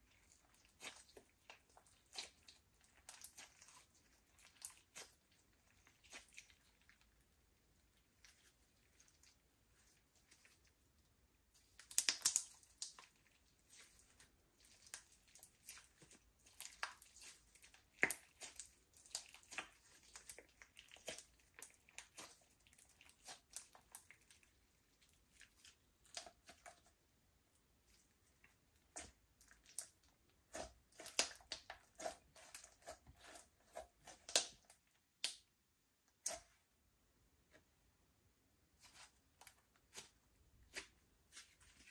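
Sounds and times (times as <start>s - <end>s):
slime squelching and crackling: 0.0s - 36.6s, 38.7s - 41.9s.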